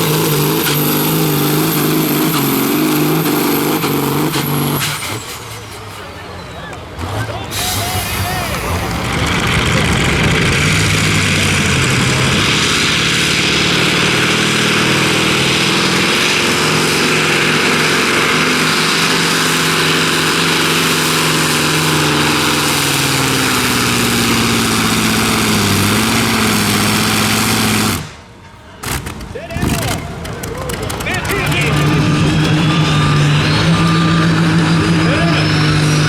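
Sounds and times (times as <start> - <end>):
tractor engine under heavy load: 0.0 - 36.0.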